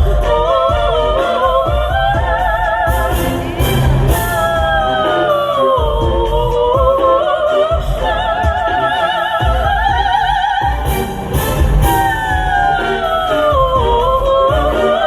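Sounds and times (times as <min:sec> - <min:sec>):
instrumental accompaniment: 0:00.0 - 0:15.0
sopranos singing in harmony: 0:00.0 - 0:15.0.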